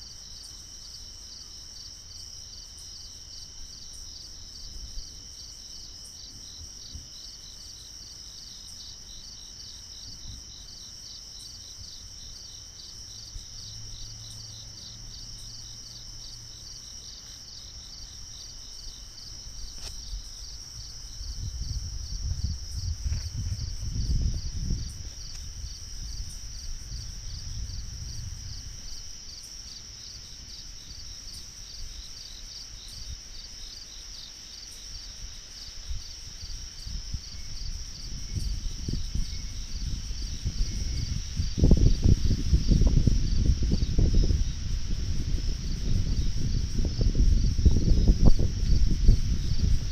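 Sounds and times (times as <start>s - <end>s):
night insects chirring: 0.0s - 49.9s.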